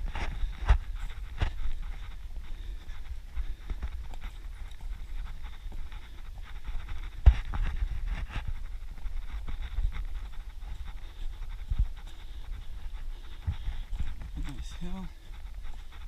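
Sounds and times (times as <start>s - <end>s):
running footsteps on dirt trail: 0.0s - 16.0s.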